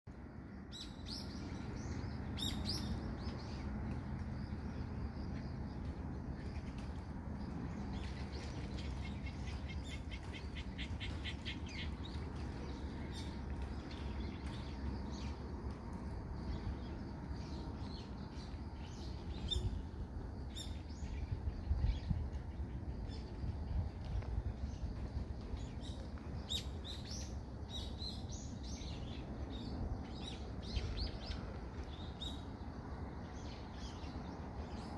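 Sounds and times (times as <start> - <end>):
low city rumble: 0.1 - 34.9
small birds chirping: 0.2 - 34.9.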